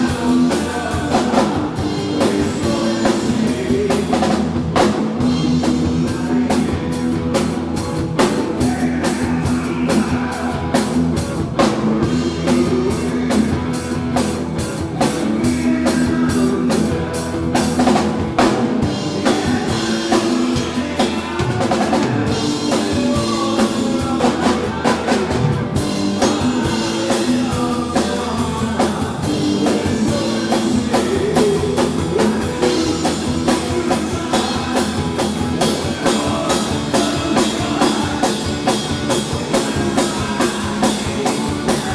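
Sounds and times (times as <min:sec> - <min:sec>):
loud drum kit beat: 0:00.0 - 0:41.9
rock band playing: 0:00.0 - 0:41.9.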